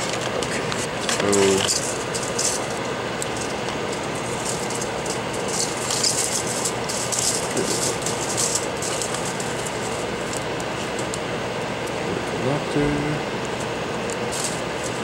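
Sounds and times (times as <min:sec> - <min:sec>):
fan running: 0:00.0 - 0:15.0.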